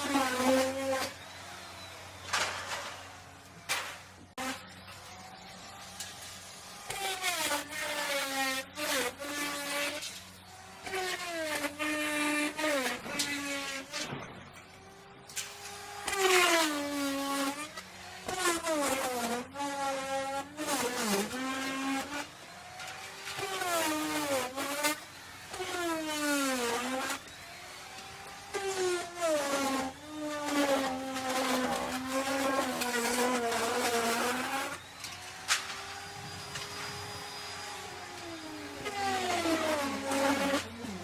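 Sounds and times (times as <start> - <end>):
wood router cutting wood: 0.0 - 41.0.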